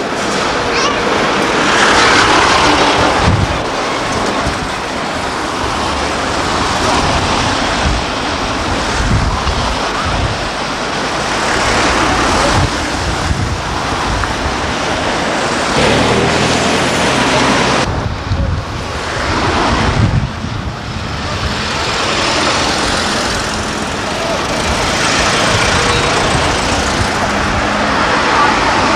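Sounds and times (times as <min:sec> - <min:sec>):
gusting wind on microphone: 0:00.0 - 0:28.9
vehicle engines running: 0:00.0 - 0:28.9.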